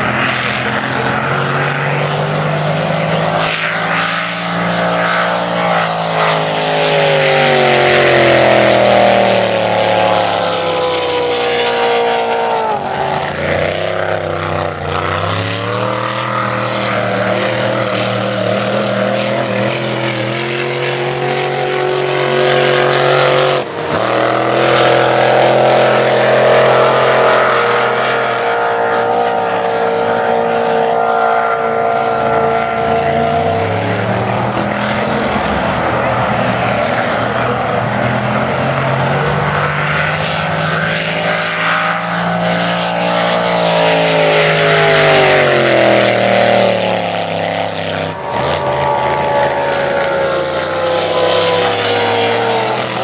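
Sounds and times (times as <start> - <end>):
race boat engine at high revs: 0.0 - 53.0.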